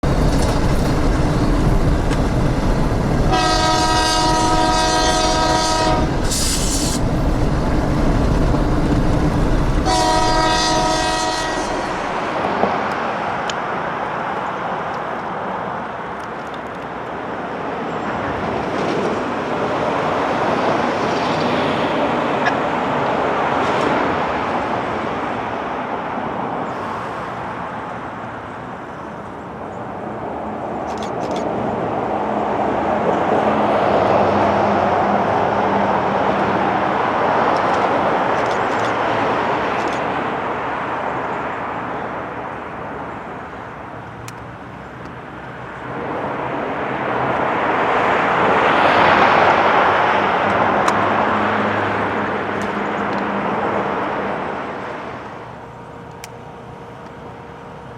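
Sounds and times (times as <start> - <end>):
vehicles passing by: 0.0 - 57.9.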